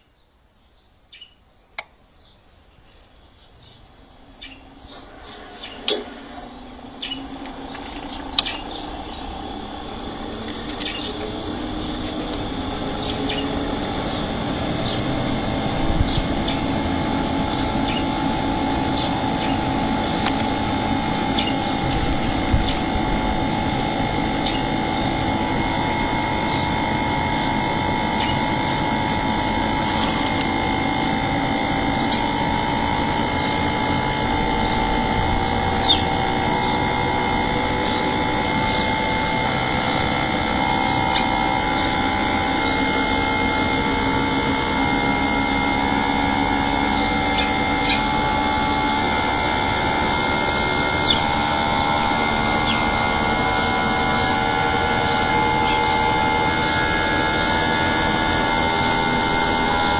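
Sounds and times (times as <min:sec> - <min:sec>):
air conditioner humming and whining: 0:00.0 - 0:59.9.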